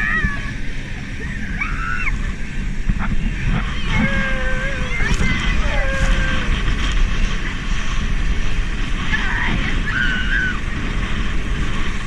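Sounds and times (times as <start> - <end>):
water rushing: 0.0 - 12.0
wind rushing: 0.0 - 12.0.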